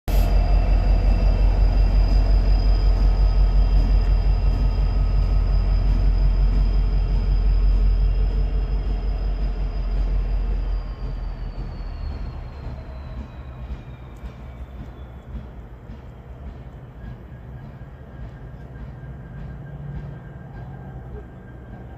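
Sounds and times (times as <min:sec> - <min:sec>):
diesel locomotive rumbling: 0:00.0 - 0:21.9.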